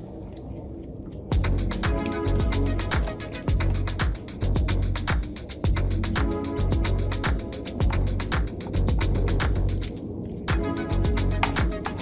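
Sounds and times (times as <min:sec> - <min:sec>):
electronic music with steady beat: 0:01.3 - 0:12.0.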